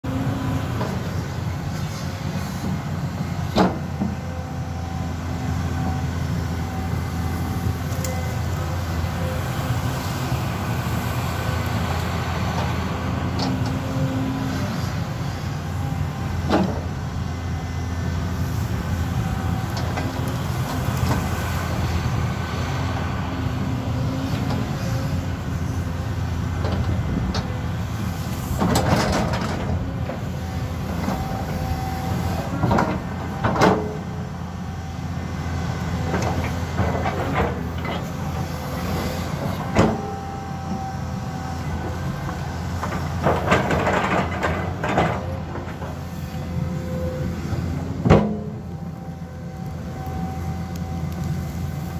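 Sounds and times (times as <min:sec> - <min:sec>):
excavator diesel engine running: 0:00.1 - 0:51.9.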